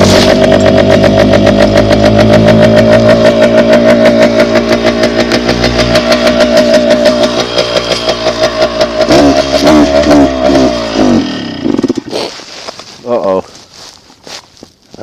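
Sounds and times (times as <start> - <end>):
dirt bike engine sputtering: 0.0 - 13.6.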